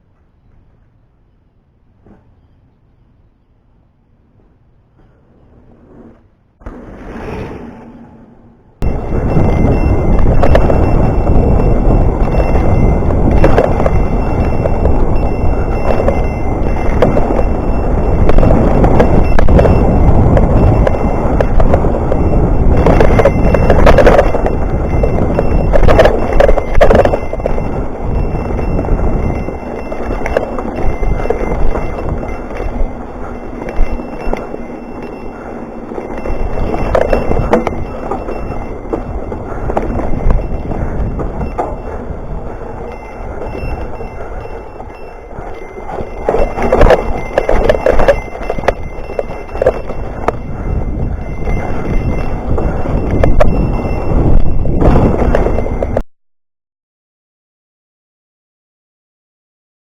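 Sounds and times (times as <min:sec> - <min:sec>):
bike tyres rolling and rattling: 0:05.0 - 0:56.0.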